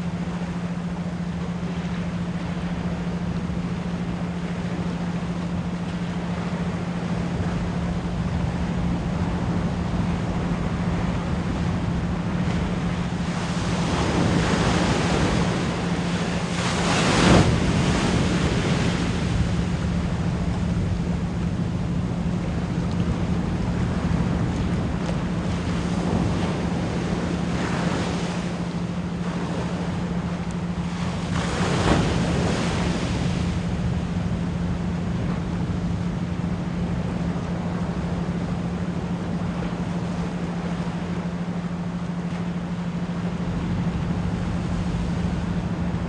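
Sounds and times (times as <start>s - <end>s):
ocean waves washing on shore: 0.0s - 46.0s.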